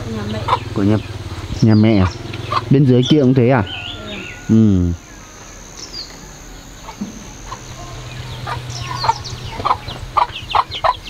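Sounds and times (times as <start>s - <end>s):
chickens clucking: 0.0s - 11.0s
low steady hum: 0.0s - 11.0s.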